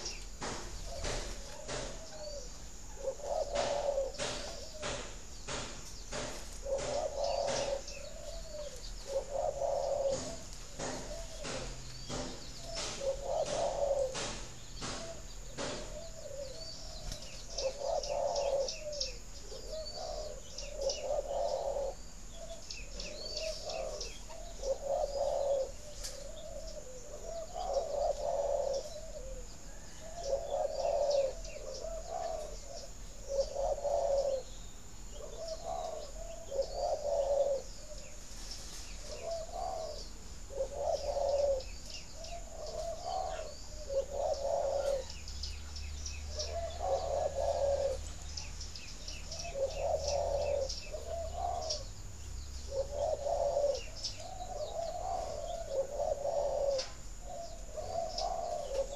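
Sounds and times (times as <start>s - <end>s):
dove cooing: 0.0s - 58.9s
small birds chirping: 0.0s - 58.9s.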